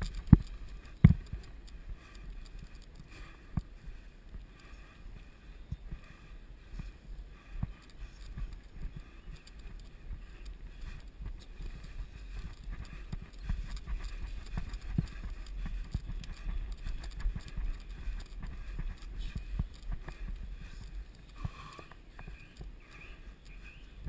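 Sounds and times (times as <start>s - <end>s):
bike rattling over bumpy trail: 0.0s - 23.9s
wind rumble on microphone: 0.0s - 24.0s.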